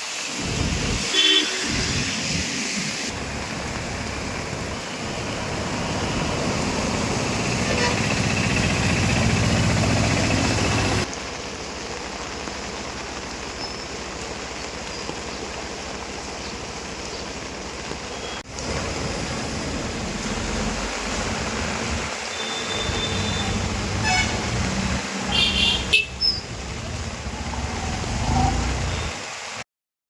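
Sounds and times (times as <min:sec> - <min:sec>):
flowing water rushing: 0:00.0 - 0:29.6
vehicle noise: 0:00.4 - 0:11.2, 0:13.8 - 0:29.6.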